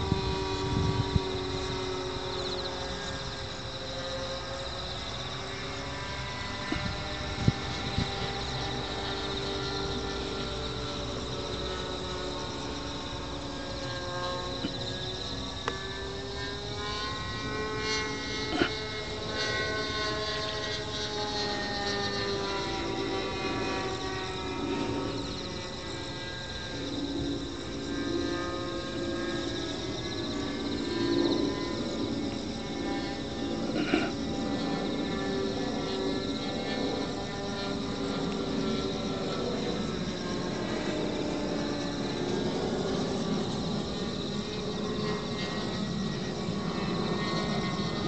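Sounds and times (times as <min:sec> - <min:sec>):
model airplane engine whining: 0:00.0 - 0:48.0.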